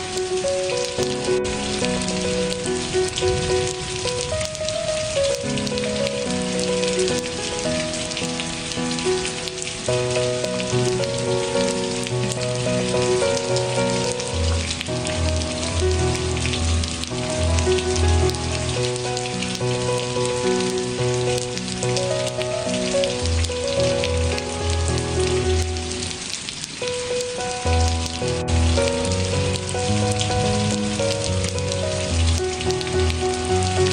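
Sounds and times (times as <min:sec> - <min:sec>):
soft relaxation music: 0:00.0 - 0:33.9
steady rain falling: 0:00.0 - 0:33.9.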